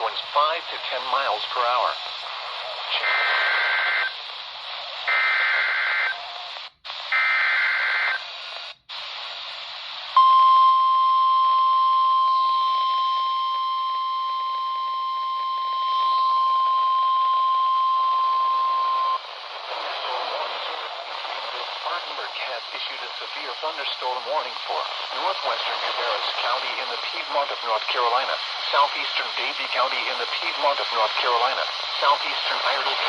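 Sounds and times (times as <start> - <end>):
radio static hiss: 0.0 - 10.2, 15.6 - 33.0.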